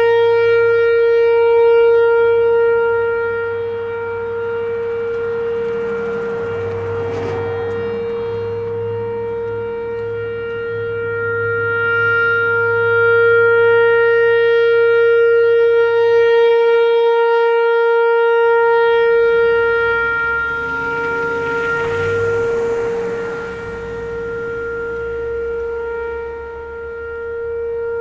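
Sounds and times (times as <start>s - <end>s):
warning siren steady tone: 0.0s - 28.0s.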